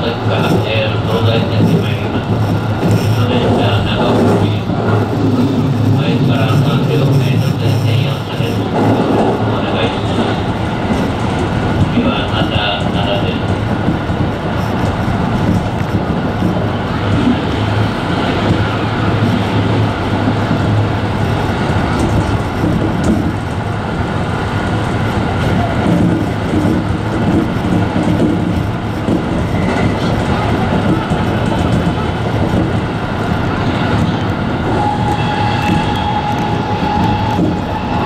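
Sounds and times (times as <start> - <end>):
train wheels rumbling: 0.0 - 38.0.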